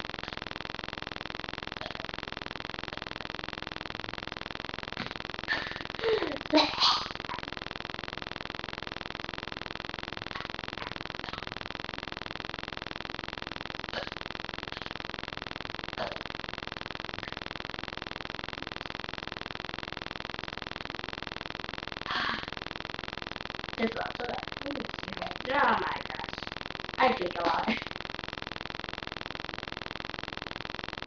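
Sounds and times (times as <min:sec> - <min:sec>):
steady buzz: 0:00.0 - 0:31.0.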